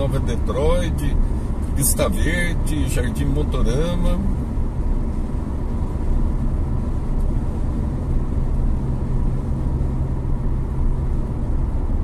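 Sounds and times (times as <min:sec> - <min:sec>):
car road noise rumble: 0:00.0 - 0:12.0
constant hum: 0:00.0 - 0:12.0.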